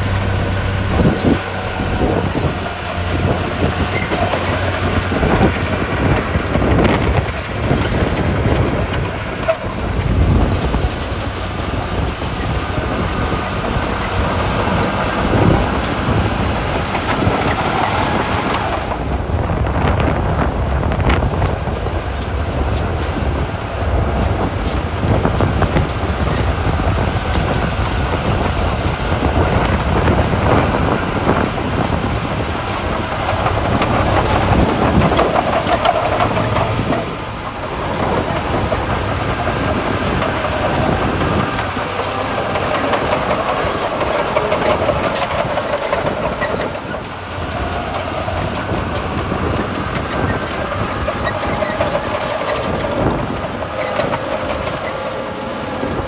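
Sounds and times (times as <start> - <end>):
bulldozer engine under load: 0.0 - 56.0
steel tracks clanking: 0.0 - 56.0.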